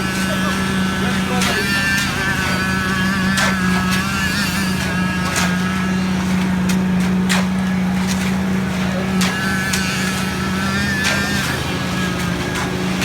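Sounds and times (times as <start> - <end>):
concrete machinery engine drone: 0.0 - 13.0.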